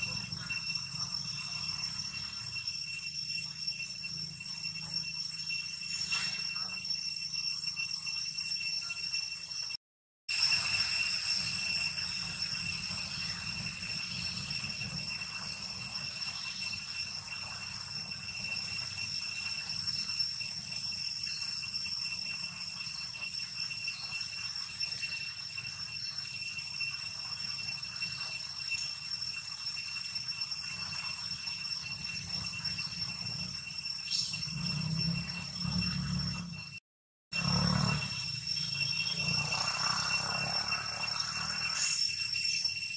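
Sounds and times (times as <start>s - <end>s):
high-pitched insect buzz: 0.0s - 36.8s, 37.4s - 42.9s.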